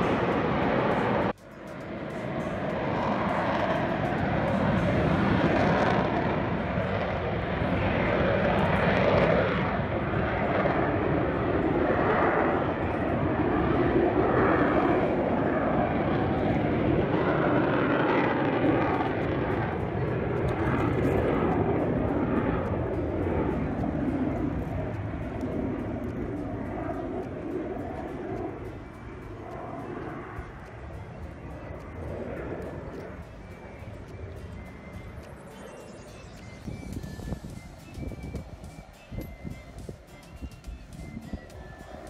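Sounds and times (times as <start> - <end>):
aircraft engine rumble overhead: 0.0 - 42.0.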